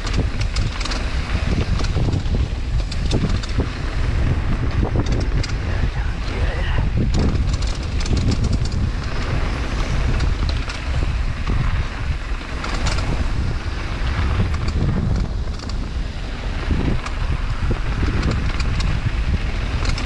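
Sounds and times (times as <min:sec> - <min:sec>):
gravel and bike rattling: 0:00.0 - 0:20.0
tyres rolling on dirt: 0:00.0 - 0:20.0
wind buffeting microphone: 0:00.0 - 0:20.0.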